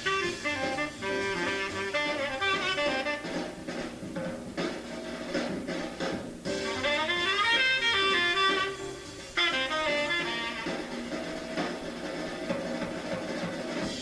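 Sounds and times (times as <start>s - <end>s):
bass: 0.0s - 14.0s
drums: 0.0s - 14.0s
piano: 0.0s - 14.0s.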